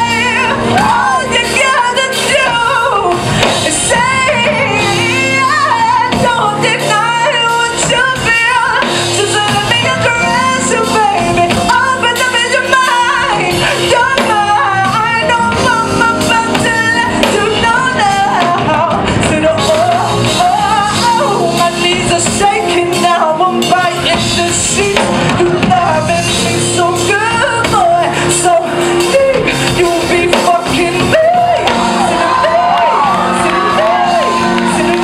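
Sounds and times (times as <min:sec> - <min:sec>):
live band playing: 0:00.0 - 0:35.0
sustained bass notes: 0:00.0 - 0:35.0.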